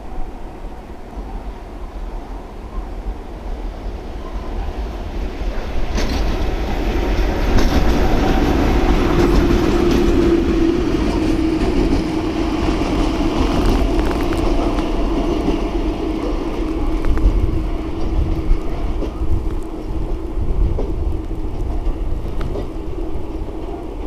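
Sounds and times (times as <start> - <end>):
train rumbling past: 0.0 - 24.0
wheels clicking on rails: 4.5 - 24.0.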